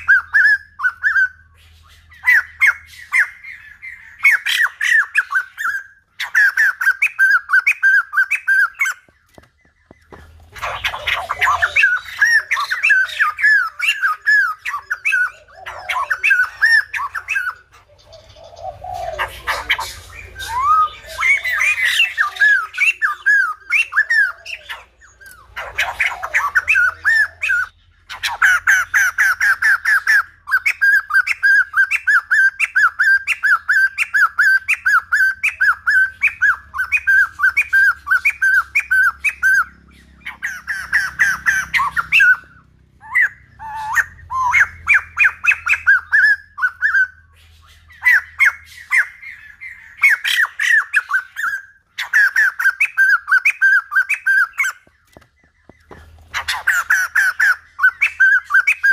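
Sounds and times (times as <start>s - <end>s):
bird chattering calls: 0.0s - 58.9s.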